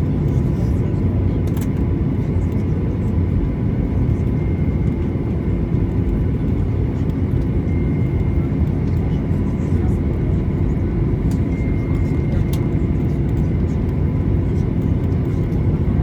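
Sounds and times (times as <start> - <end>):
airplane cabin low rumble: 0.0 - 16.0.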